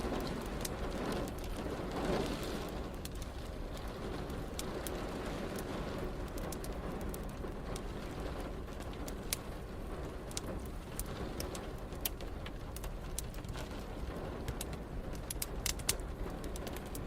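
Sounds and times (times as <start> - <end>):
fireplace crackling and popping: 0.0 - 17.0
low rumble: 0.0 - 17.0
rain hissing: 0.0 - 17.0.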